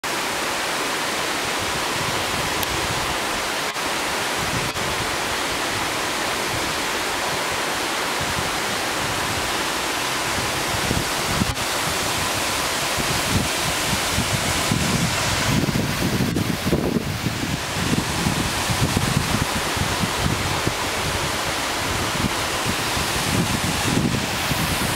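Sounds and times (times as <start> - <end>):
waterfall rushing and splashing: 0.0 - 24.9.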